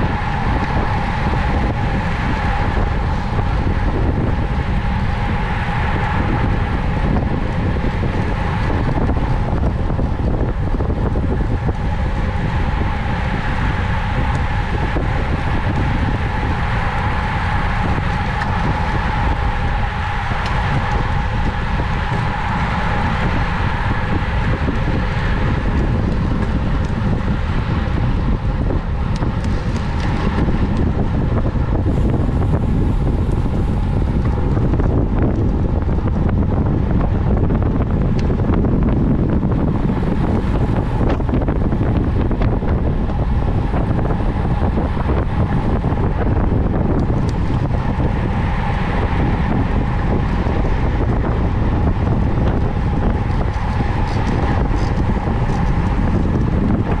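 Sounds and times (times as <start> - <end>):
faint steady whine: 0.0 - 57.0
wind buffeting microphone: 0.0 - 57.0.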